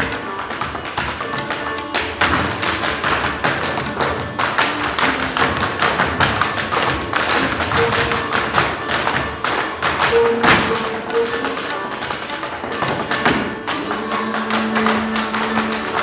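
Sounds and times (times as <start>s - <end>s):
feet tapping on stage floor: 0.0s - 16.0s
music: 0.0s - 16.0s.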